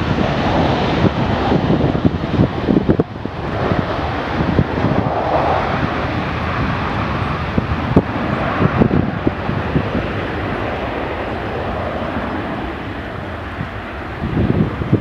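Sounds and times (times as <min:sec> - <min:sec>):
jet engines rushing: 0:00.0 - 0:15.0
wind thumps on microphone: 0:00.0 - 0:15.0.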